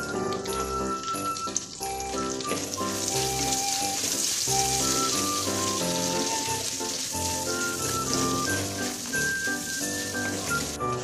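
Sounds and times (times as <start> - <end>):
background music: 0.0 - 11.0
shallots sizzling in oil: 0.0 - 11.0.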